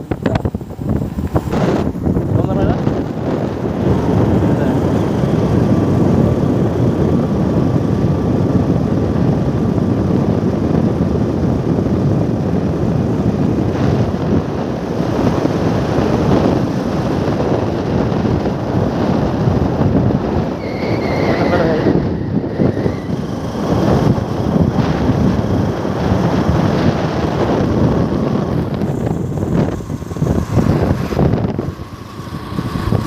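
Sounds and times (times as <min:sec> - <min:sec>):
moving vehicle noise: 0:00.0 - 0:33.0
wind rushing over microphone: 0:00.0 - 0:33.0.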